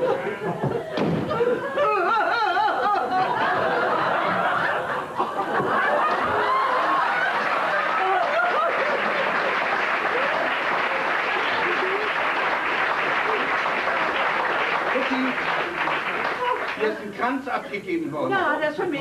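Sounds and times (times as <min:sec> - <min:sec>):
audience laughing: 0:00.0 - 0:16.9.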